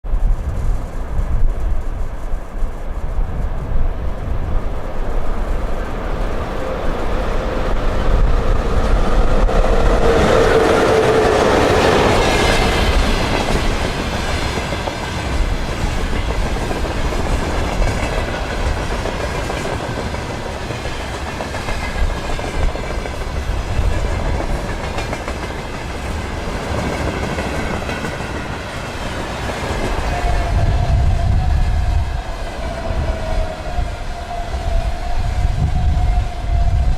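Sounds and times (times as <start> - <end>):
electric locomotive passing: 0.1 - 36.9.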